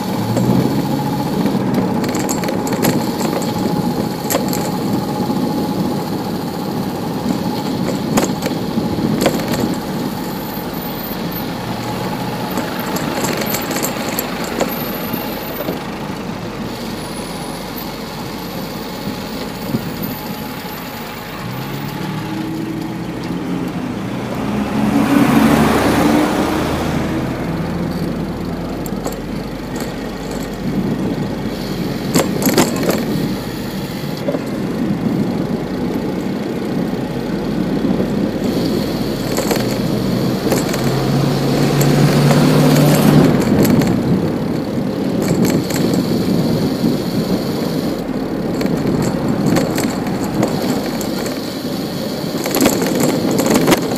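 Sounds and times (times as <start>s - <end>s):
sharp clicks and rattles: 0.0s - 24.5s, 26.8s - 53.9s
motor vehicles passing: 0.0s - 53.9s
road noise from bicycle: 0.0s - 53.9s.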